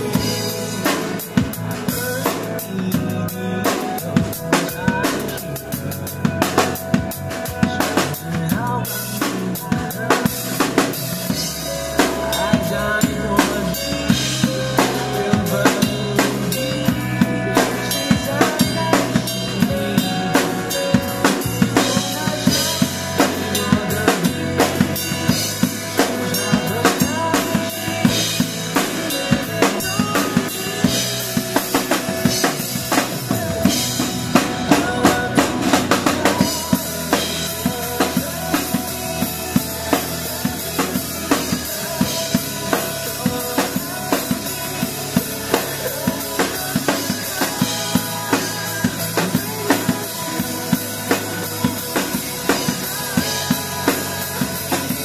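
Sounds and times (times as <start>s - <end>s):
drum kit groove: 0.0s - 55.0s
pop backing track: 0.0s - 55.0s.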